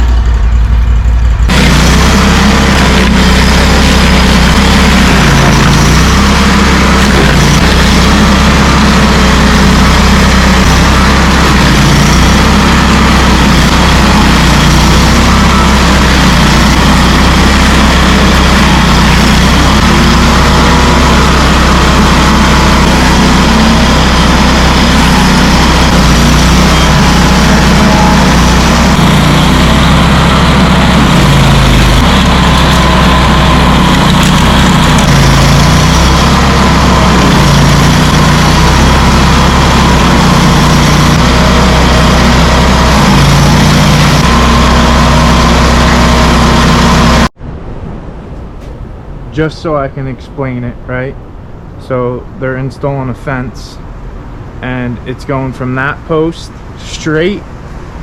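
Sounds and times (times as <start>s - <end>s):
stump grinder engine running: 0.0s - 47.4s
cutter wheel rasping: 0.8s - 47.4s.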